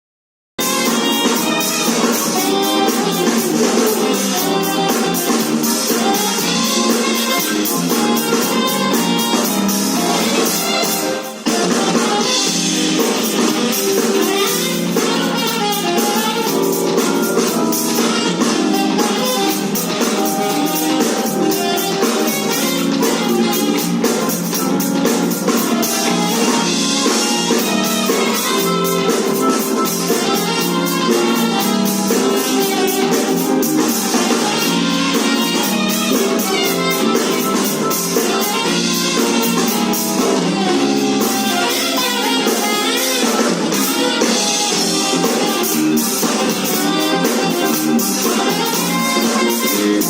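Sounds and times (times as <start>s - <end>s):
drum kit beat: 0.6s - 50.0s
guitar: 0.6s - 50.0s
saxophone playing: 0.6s - 50.0s.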